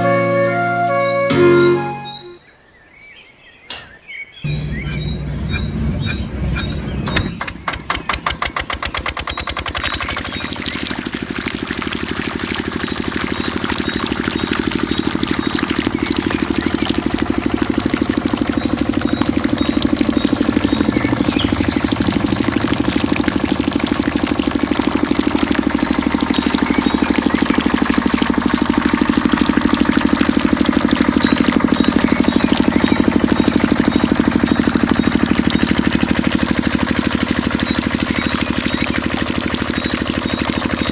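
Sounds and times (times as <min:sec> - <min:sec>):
miniature diesel engine running: 0:04.5 - 0:40.9.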